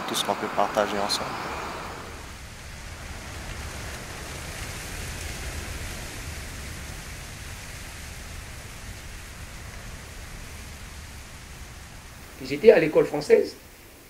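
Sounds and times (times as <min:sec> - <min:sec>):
low rumble: 0:00.0 - 0:12.6
rushing hiss: 0:00.0 - 0:14.0.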